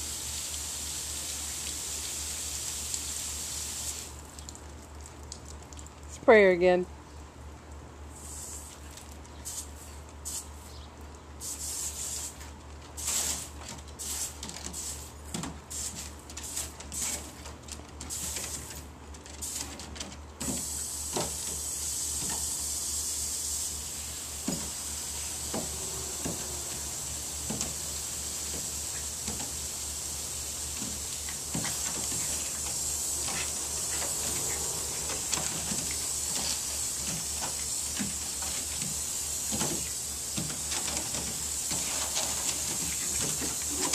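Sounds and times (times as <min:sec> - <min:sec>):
garden hose spraying water: 0:00.0 - 0:06.8, 0:07.7 - 0:43.9.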